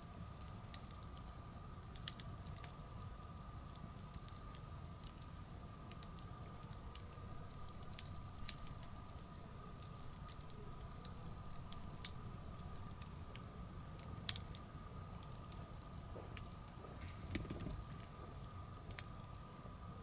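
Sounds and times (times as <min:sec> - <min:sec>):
bonfire crackling: 0:00.0 - 0:20.0
low rumble of flames: 0:00.0 - 0:20.0.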